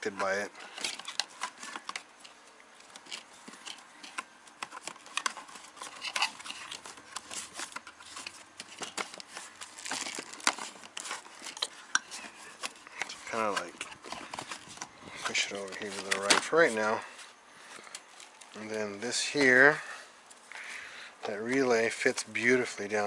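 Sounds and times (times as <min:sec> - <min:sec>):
plastic and wire clicking and crinkling: 0:00.1 - 0:23.0.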